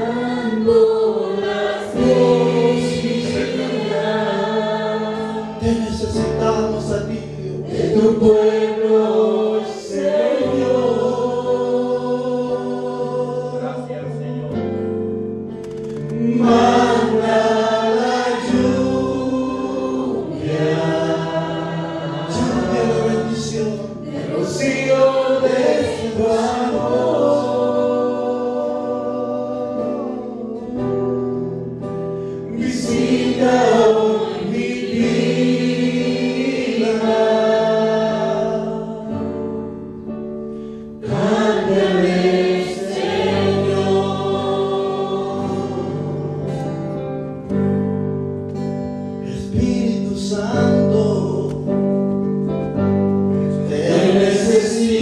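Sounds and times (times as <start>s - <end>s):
choir singing worship song: 0.0s - 14.8s, 16.1s - 47.2s, 49.2s - 51.7s, 52.7s - 55.0s.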